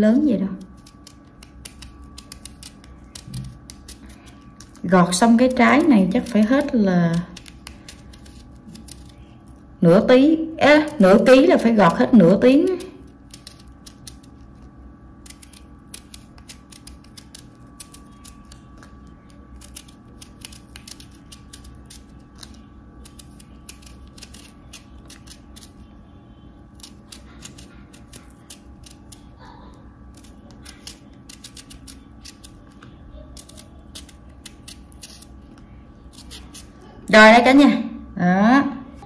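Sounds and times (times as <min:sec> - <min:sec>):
knife scraping vegetable peel: 0:00.6 - 0:09.6, 0:10.6 - 0:26.0, 0:26.7 - 0:36.9.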